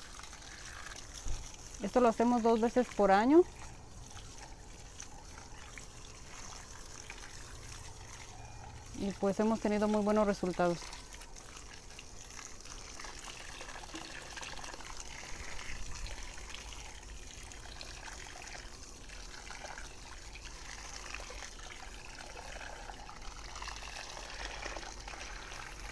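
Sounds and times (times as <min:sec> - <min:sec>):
hose water splashing on soil: 0:00.0 - 0:25.9.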